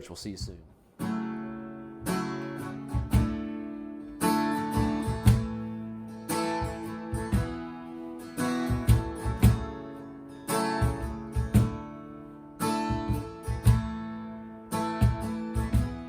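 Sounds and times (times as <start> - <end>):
acoustic guitar strumming: 0.9 - 16.0.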